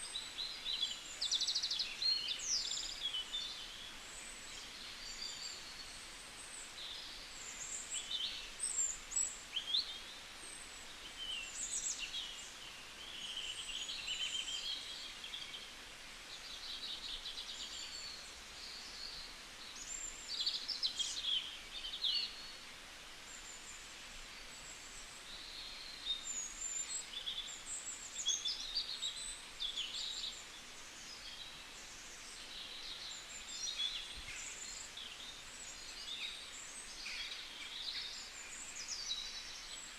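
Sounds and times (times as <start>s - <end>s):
background hiss: 0.0s - 39.9s
small birds chirping: 0.0s - 39.9s.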